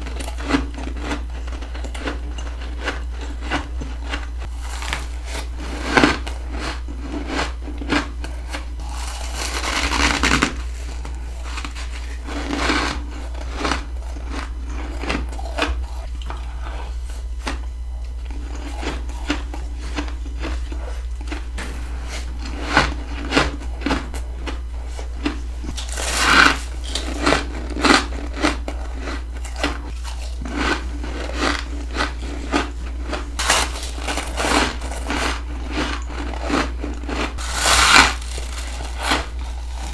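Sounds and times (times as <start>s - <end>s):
frost crunching as chewed: 0.0s - 39.9s.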